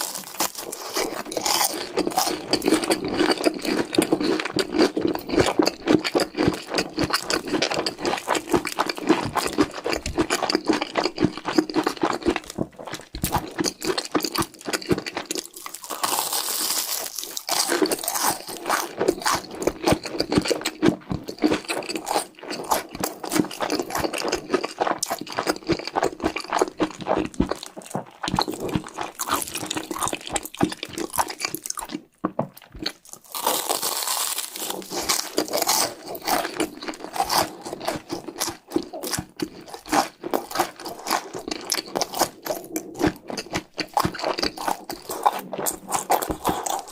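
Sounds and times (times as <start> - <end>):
chewing and crunching: 0.0 - 46.9.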